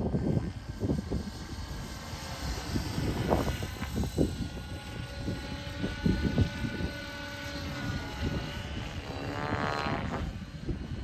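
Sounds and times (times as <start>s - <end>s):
model helicopter high whine: 0.0s - 11.0s
wind rumble on microphone: 0.0s - 11.0s.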